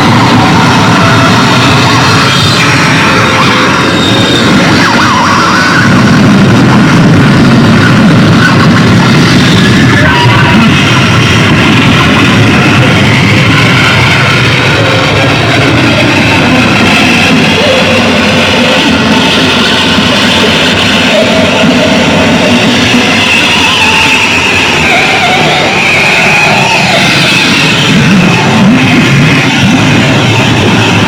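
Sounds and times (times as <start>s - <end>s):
distorted electronic noise: 0.0s - 31.0s.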